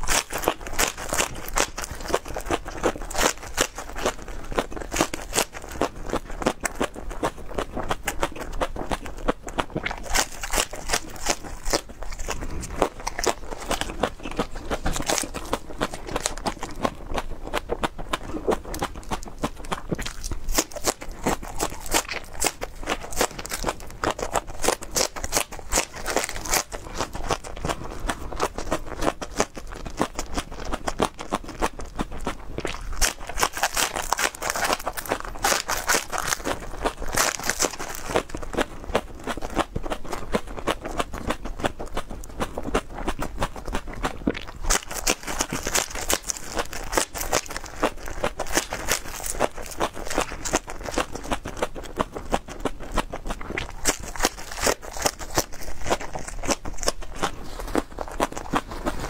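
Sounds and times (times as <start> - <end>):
crunching green onion: 0.0 - 59.0.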